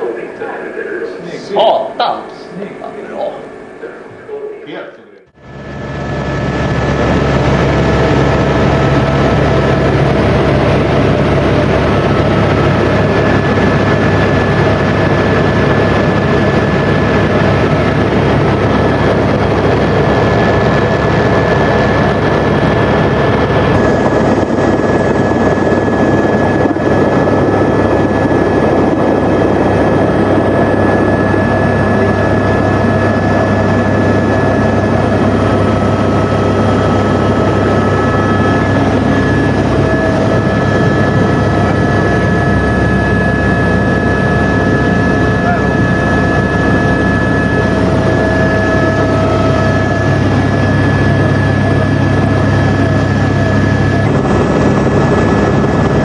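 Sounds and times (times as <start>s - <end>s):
helicopter engine and rotor: 0.0s - 4.7s, 5.3s - 56.0s.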